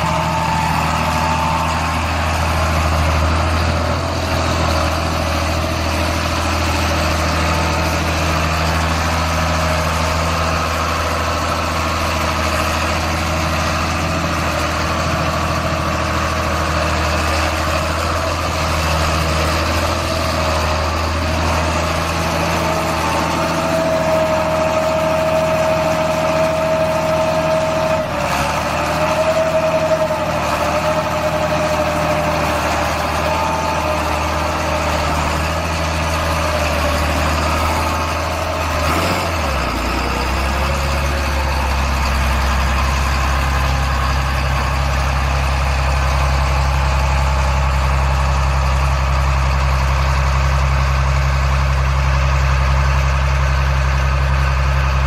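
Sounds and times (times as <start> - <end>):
engine whine: 0.0 - 55.0
tractor diesel engine running: 0.0 - 55.0.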